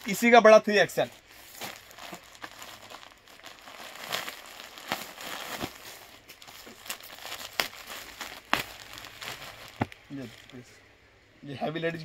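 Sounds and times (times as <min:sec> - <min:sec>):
plastic garment bags crinkling: 0:00.9 - 0:10.6.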